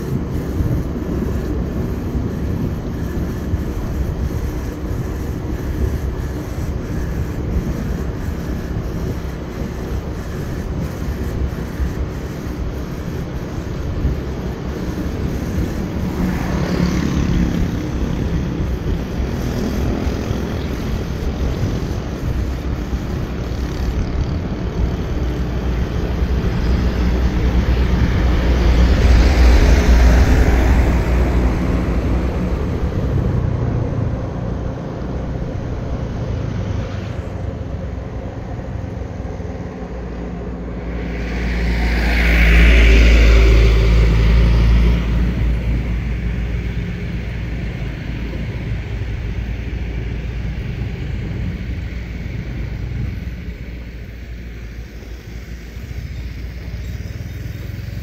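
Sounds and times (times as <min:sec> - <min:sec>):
motorbike engine running: 0:00.0 - 0:54.2
wind rushing over microphone: 0:00.0 - 0:58.0.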